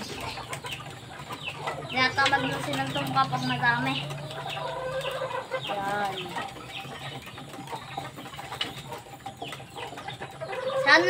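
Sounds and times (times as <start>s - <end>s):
pigeons pecking on bamboo floor: 0.0s - 11.0s.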